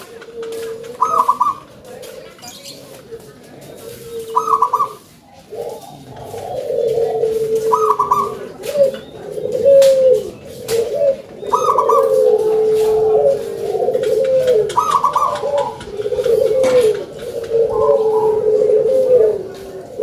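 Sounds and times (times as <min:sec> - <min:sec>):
doves cooing: 0:00.0 - 0:20.0.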